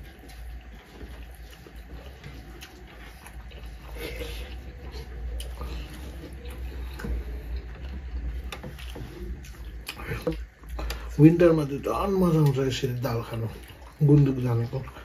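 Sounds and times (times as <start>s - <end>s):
low hum: 0.0s - 15.0s
people chewing: 0.0s - 15.0s.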